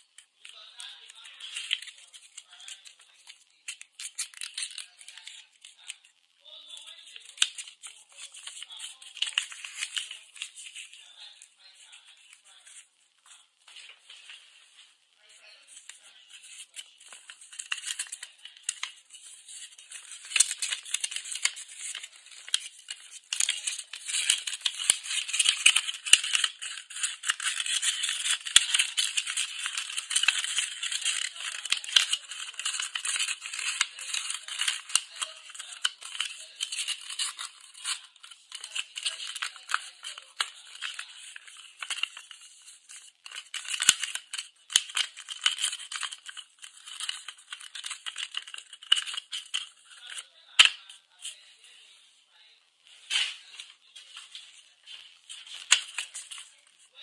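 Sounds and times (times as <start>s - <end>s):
paper rustling and crinkling: 0.0s - 6.0s, 7.1s - 15.0s, 15.6s - 51.4s, 52.9s - 57.0s.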